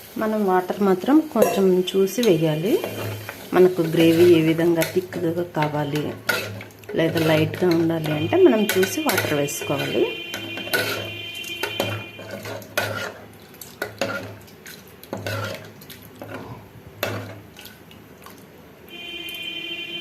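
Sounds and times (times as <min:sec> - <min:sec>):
metal spoon clinking and scraping pot: 0:01.4 - 0:17.4.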